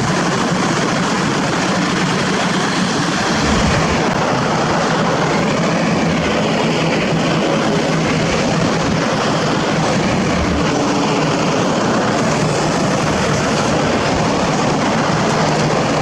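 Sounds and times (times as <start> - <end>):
diesel engine running: 0.8 - 16.0.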